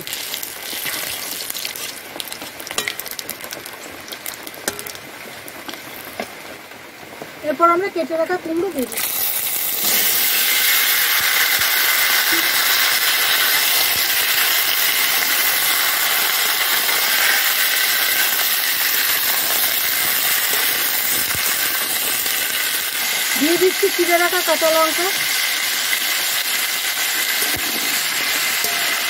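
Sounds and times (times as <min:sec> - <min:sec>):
pumpkin sizzling in hot oil: 0:00.0 - 0:29.0.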